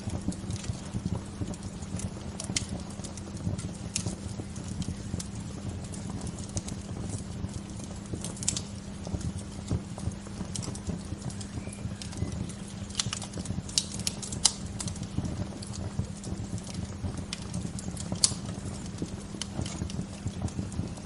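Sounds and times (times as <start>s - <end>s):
bonfire crackling: 0.0s - 21.0s
steady low rumble: 0.0s - 21.0s.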